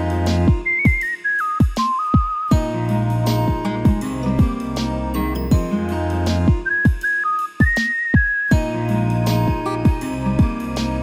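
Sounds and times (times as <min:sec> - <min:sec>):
background music with steady beat: 0:00.0 - 0:11.0
whistle-like melody: 0:00.0 - 0:11.0.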